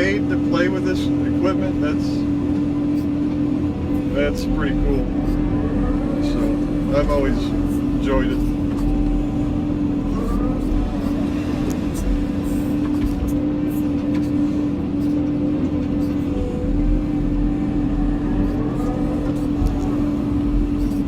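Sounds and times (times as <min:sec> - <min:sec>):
excavator engine hum: 0:00.0 - 0:21.0.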